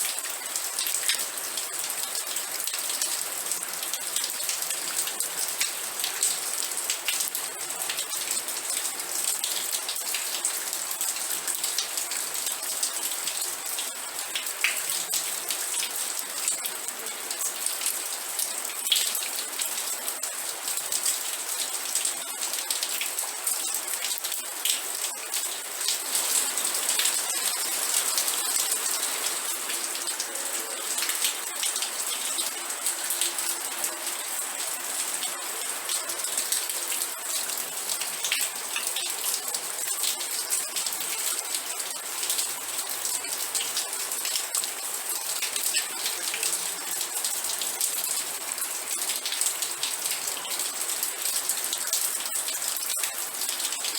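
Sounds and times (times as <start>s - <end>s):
rain pattering on a surface: 0.0s - 53.9s.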